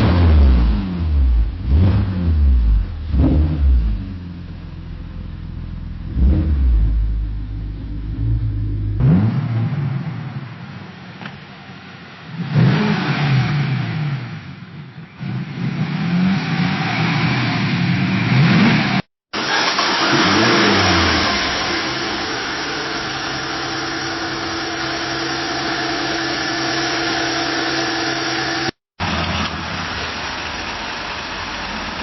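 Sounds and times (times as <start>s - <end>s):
car engine revving: 0.0s - 11.4s, 12.1s - 29.2s
car engine starting and idling: 0.0s - 15.7s, 16.6s - 32.0s.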